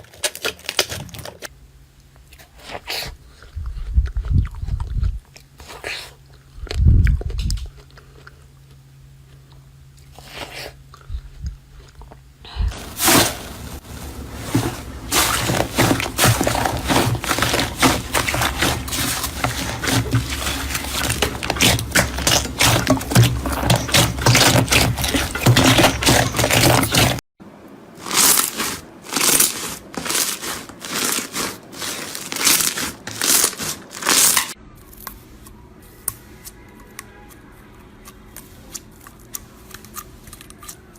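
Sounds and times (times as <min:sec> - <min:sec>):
close-up crunching and crackling: 0:00.0 - 0:27.2, 0:27.9 - 0:40.9.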